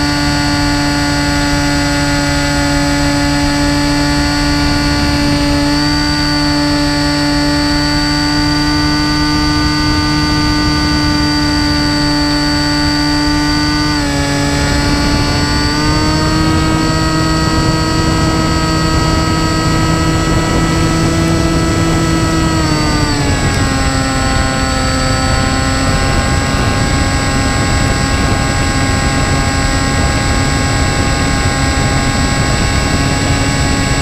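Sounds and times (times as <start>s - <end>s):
electric motor and propeller whining: 0.0s - 34.0s.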